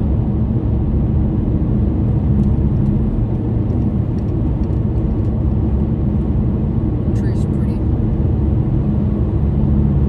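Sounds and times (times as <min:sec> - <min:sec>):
car engine and tyres droning: 0:00.0 - 0:10.0.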